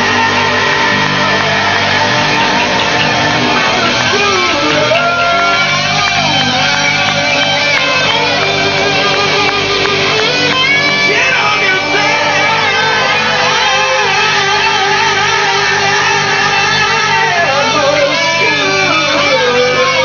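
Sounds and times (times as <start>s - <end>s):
electric guitar lead bending notes: 0.0s - 20.0s
rock band playing live: 0.0s - 20.0s.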